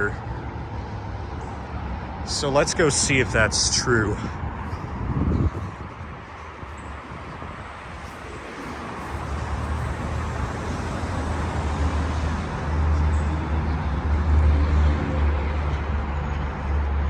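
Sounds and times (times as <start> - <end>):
road traffic rushing past: 0.0 - 17.0.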